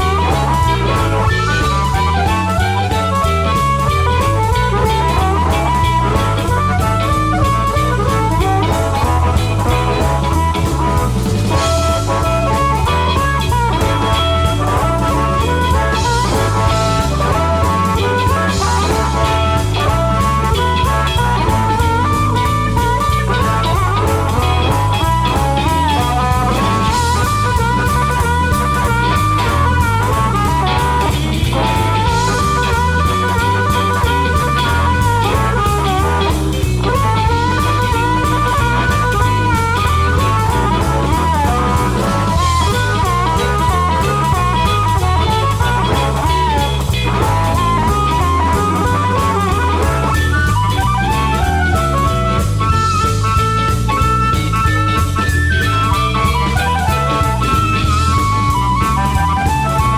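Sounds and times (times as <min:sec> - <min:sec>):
amplified blues harmonica: 0:00.0 - 0:59.9
bass guitar: 0:00.0 - 0:59.9
drum kit: 0:00.0 - 0:59.9
guitar: 0:00.0 - 0:59.9.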